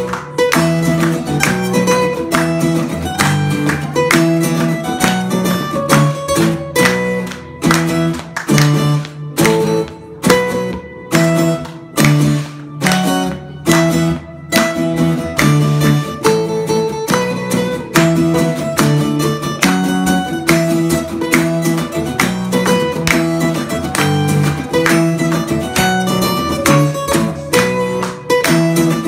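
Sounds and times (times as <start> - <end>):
acoustic guitars strummed: 0.0 - 29.0.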